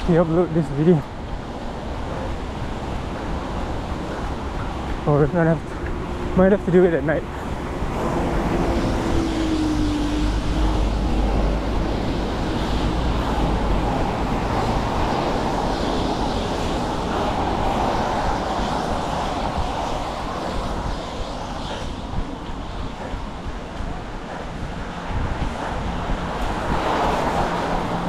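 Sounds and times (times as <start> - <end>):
traffic noise: 0.0 - 28.0
wind buffeting microphone: 0.0 - 28.0
low hum: 1.3 - 28.0.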